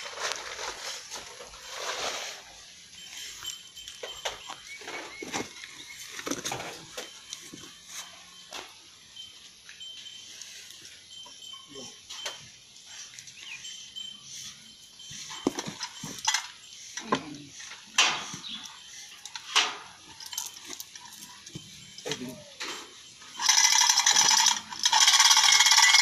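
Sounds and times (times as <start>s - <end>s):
pipe and tools clanking: 0.0s - 8.8s, 9.8s - 26.0s.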